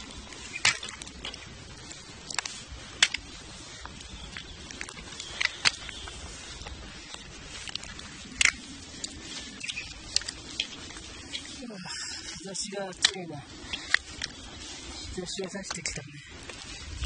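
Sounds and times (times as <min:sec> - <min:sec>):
sharp plastic crackles: 0:00.0 - 0:11.6, 0:12.5 - 0:17.0
plastic poncho rustling: 0:00.0 - 0:17.0.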